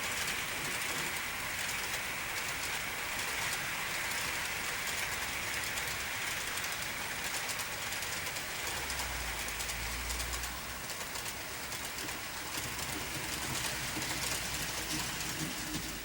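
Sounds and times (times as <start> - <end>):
model train rolling on track: 0.0 - 16.0.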